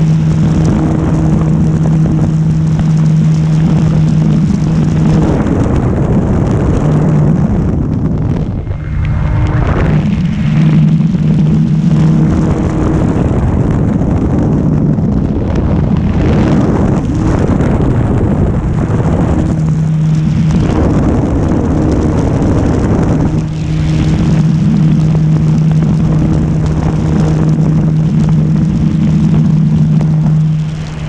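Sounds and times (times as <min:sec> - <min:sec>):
model plane motor buzzing: 0:00.0 - 0:31.0
wind noise on microphone: 0:00.0 - 0:31.0.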